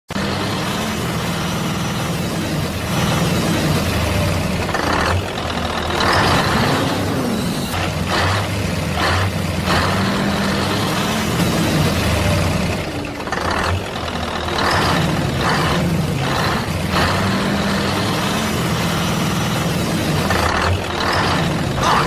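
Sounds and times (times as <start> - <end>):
truck engine idling: 0.1 - 22.0.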